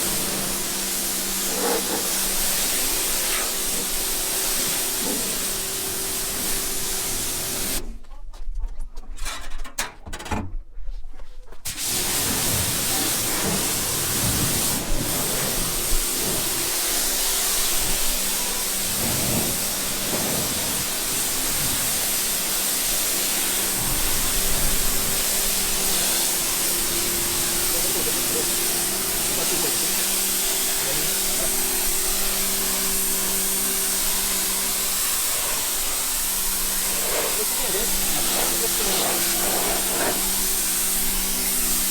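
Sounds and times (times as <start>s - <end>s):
hissing water spray: 0.0s - 7.8s, 11.7s - 41.9s.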